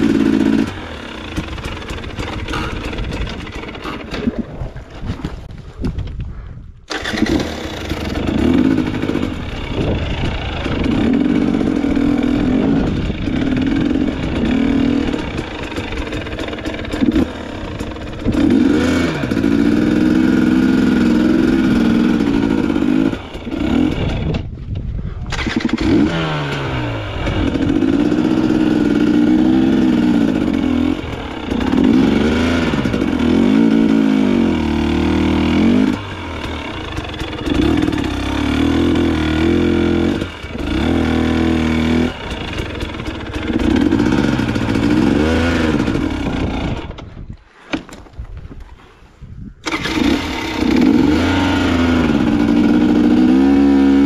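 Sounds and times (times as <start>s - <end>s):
dirt bike engine revving: 0.0s - 5.3s, 6.9s - 24.5s, 25.3s - 47.2s, 49.6s - 54.0s.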